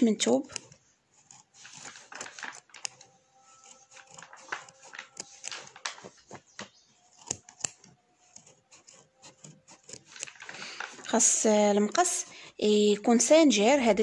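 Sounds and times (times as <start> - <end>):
scissors snipping thread: 0.2 - 12.3.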